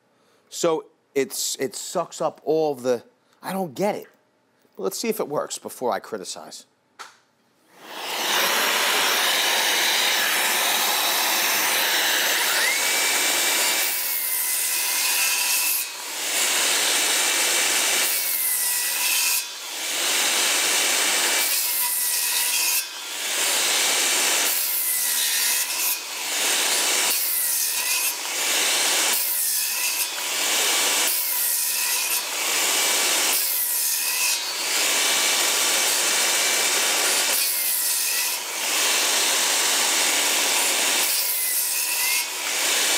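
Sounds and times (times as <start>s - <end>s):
circular saw cutting lumber: 7.7s - 42.9s.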